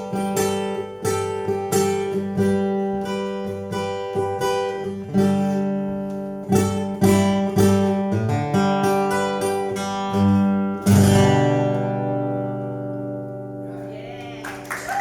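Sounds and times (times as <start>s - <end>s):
acoustic guitar strumming: 0.0s - 14.6s.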